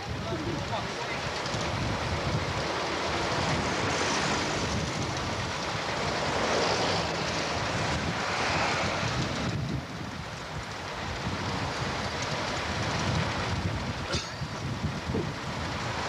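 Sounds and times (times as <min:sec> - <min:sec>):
wind blowing on microphone: 0:00.0 - 0:16.0.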